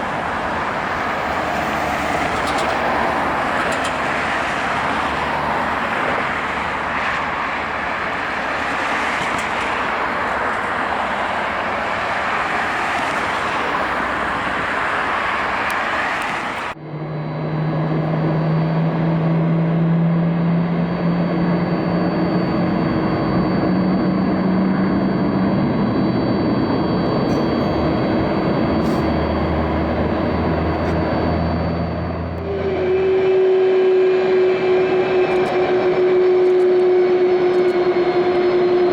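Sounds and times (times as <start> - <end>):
jet engine whine: 0.0 - 38.9
jet engines roaring: 0.0 - 38.9.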